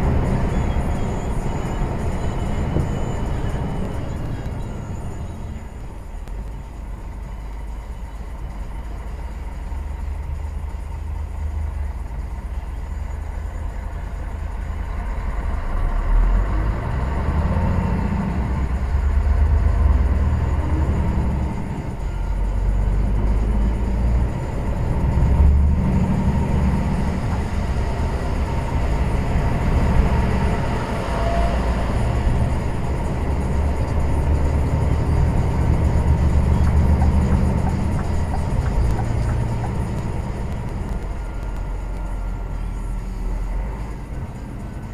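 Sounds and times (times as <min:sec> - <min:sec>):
truck engine and road rumble: 0:00.0 - 0:44.9.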